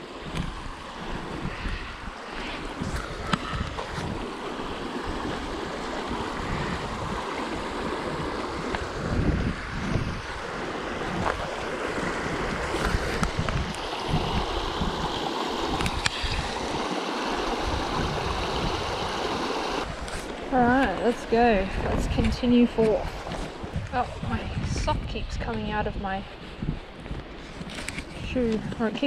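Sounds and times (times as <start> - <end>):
creek rushing over rocks: 0.0 - 24.4
wind buffeting microphone: 0.0 - 29.0.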